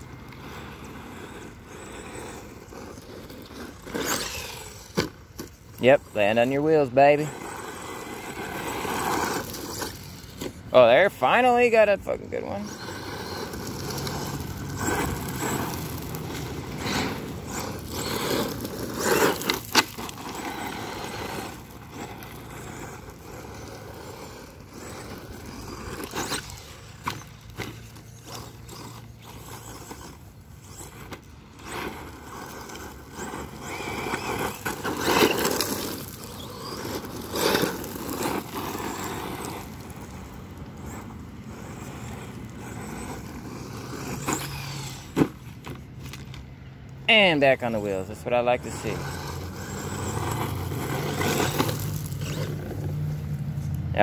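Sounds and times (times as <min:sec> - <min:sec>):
rc truck motor: 0:00.0 - 0:54.0
tyres spraying gravel: 0:00.0 - 0:54.0.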